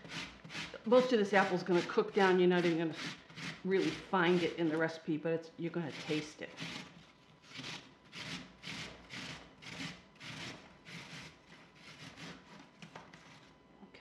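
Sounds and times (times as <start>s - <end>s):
apple grated on metal grater: 0.0s - 5.1s, 5.7s - 13.5s.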